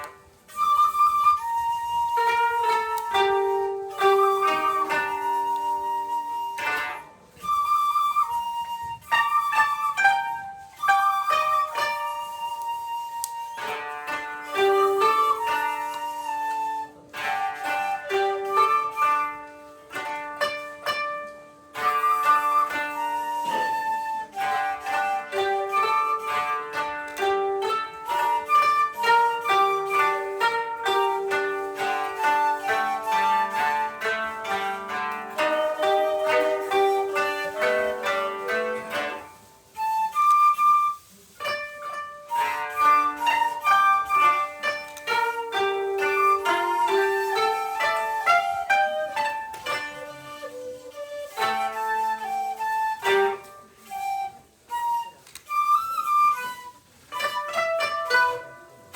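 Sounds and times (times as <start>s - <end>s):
koto plucked notes: 0.0s - 40.7s, 41.3s - 54.3s, 55.8s - 58.9s
shakuhachi long notes: 0.0s - 58.9s.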